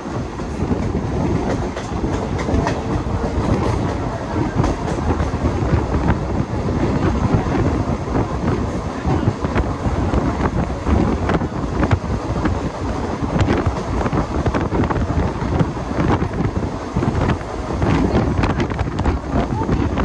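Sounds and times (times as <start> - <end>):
train running rumble: 0.0 - 20.0
wheels clattering on track: 0.0 - 20.0
wind buffeting microphone: 0.0 - 20.0.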